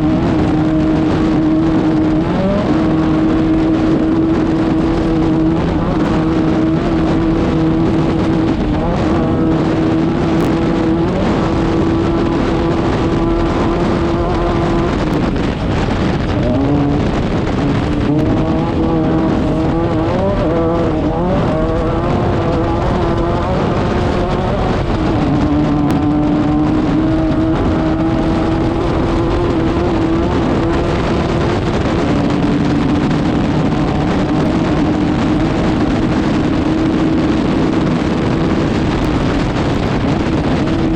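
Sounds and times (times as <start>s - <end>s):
race car engine at high revs: 0.0s - 40.9s.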